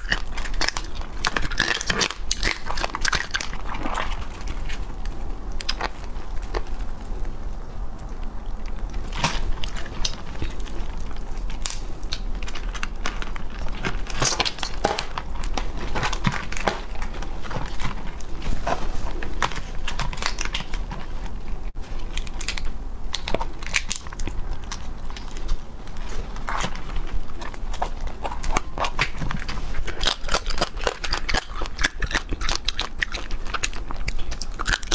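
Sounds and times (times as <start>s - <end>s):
crab shells cracking: 0.0s - 18.3s, 19.1s - 25.6s, 26.4s - 34.9s.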